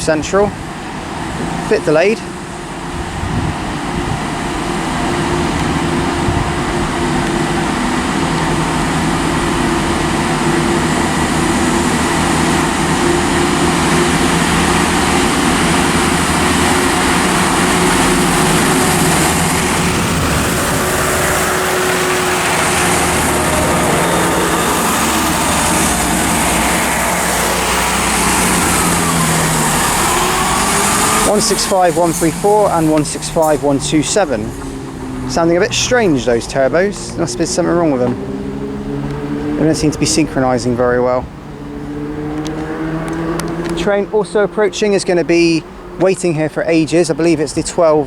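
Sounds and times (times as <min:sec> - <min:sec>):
diesel train engines droning: 0:00.0 - 0:48.0.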